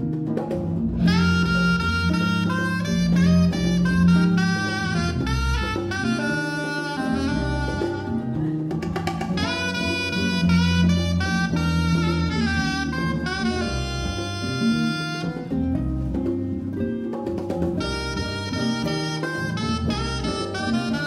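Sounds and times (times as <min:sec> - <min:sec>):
acoustic guitar: 0:00.0 - 0:21.0
electric bass: 0:00.0 - 0:21.0
saxophone melody: 0:00.9 - 0:17.0, 0:17.7 - 0:21.0.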